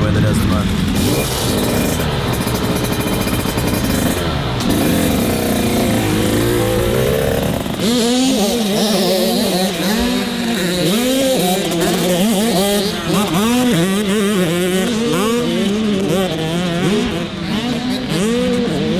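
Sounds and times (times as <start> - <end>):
dirt bike engine revving: 0.0 - 18.9
dirt bike engines running: 0.0 - 18.9.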